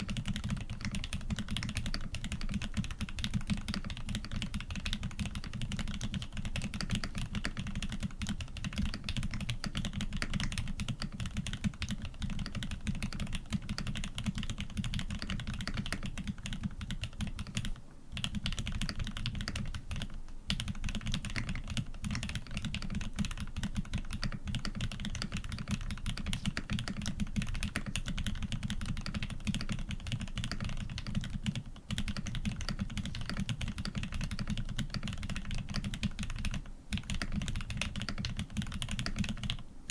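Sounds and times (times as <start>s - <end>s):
fast mechanical keyboard typing: 0.0s - 39.6s.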